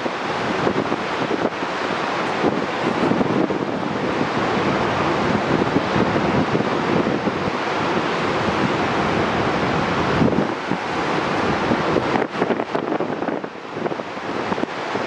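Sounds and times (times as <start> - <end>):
lake waves breaking on beach: 0.0 - 15.0
wind buffeting microphone: 0.0 - 15.0.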